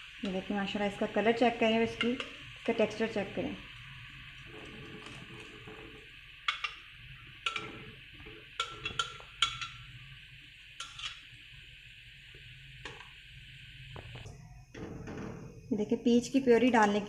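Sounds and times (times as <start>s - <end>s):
syrup simmering and bubbling: 0.0s - 15.6s.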